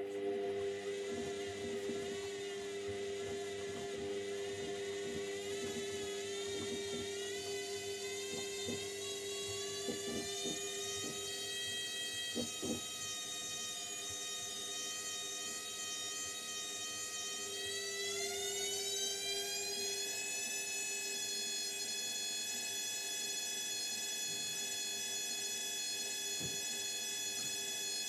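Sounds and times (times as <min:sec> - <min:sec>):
washing machine motor whine: 0:00.0 - 0:28.0.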